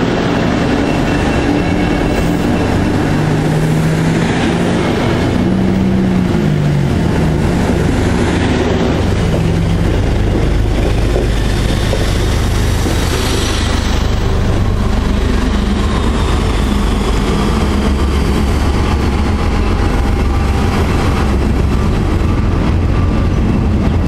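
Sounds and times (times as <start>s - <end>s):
diesel locomotive engine rumble: 0.0s - 24.0s
train wheels rumbling on rails: 0.0s - 24.0s.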